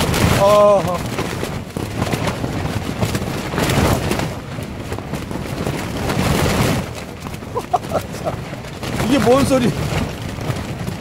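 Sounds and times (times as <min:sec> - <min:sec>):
tent fabric flapping: 0:00.0 - 0:11.0
wind rushing: 0:00.0 - 0:11.0.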